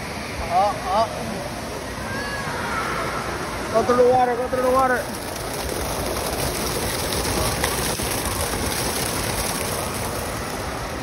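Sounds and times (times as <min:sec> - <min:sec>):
water pouring into a pool: 0:02.0 - 0:11.0.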